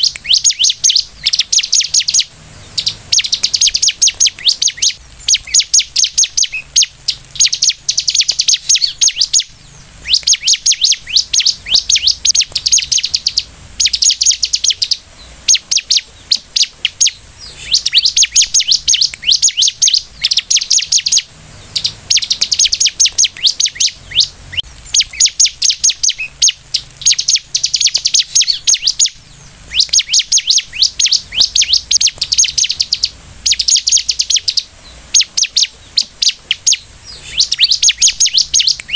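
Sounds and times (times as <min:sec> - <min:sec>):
bird singing high sharp chirps: 0:00.0 - 0:38.9.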